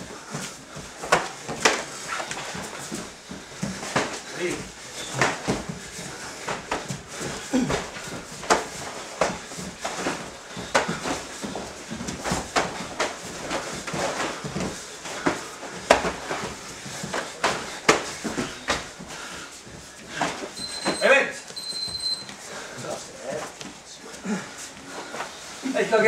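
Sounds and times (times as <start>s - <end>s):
bare feet shuffling on mat: 0.0s - 26.0s.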